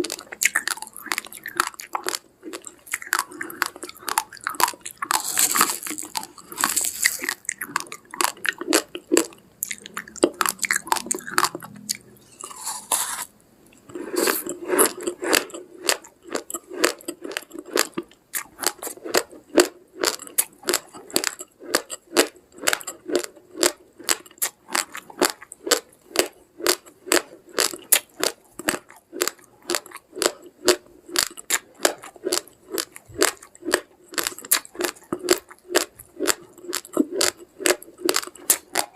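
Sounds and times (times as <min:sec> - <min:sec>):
person chewing raw rice: 0:00.0 - 0:38.9.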